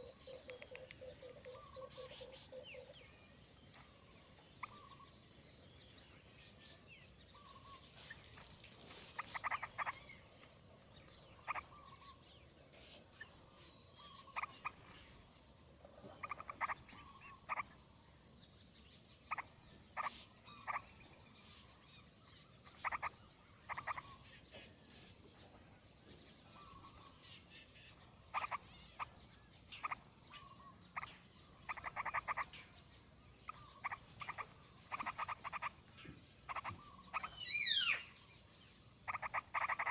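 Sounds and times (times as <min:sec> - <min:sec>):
frogs croaking: 0:00.0 - 0:08.2, 0:08.8 - 0:39.9
faint outdoor hiss: 0:00.0 - 0:39.9.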